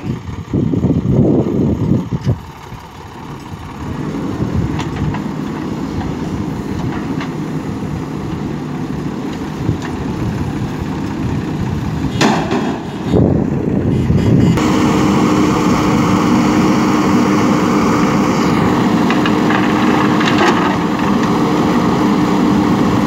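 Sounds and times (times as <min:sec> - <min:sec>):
diesel engines droning: 0:00.0 - 0:23.0.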